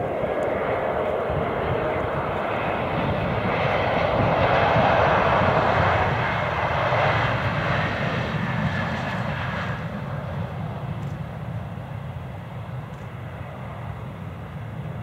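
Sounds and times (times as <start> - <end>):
jet airliner landing roar: 0.0 - 15.0.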